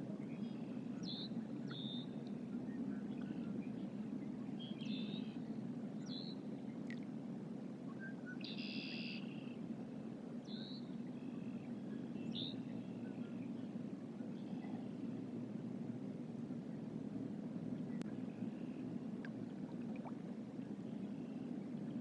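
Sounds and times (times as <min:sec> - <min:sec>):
songbirds calling: 0:00.0 - 0:07.0, 0:07.9 - 0:09.7, 0:10.4 - 0:22.0
steady low rumble: 0:00.0 - 0:08.0, 0:09.2 - 0:22.0.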